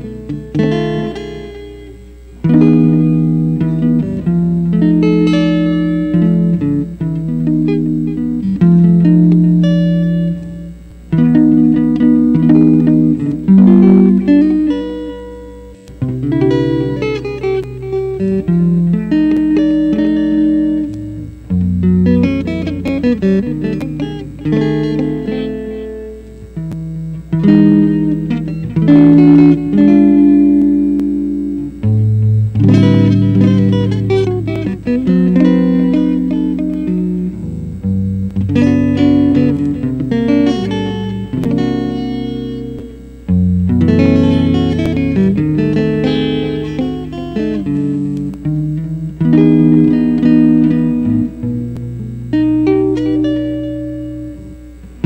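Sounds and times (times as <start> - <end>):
solo guitar jazz ballad: 0.0 - 55.0.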